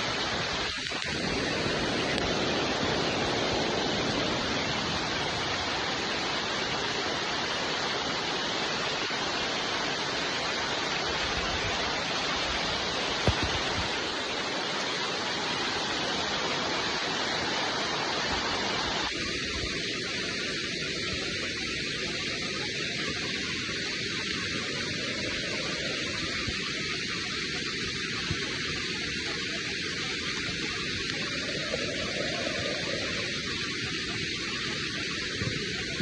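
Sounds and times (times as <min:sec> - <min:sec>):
dense rainfall: 0:00.0 - 0:36.0.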